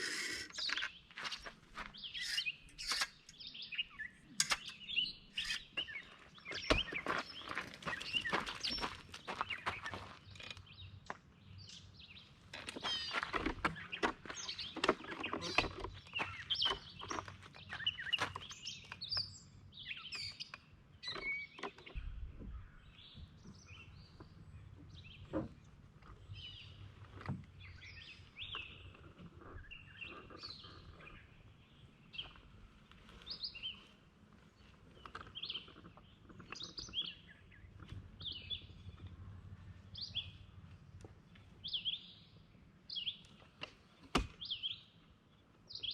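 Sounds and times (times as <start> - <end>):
wild birds chirping: 0.0 - 45.9.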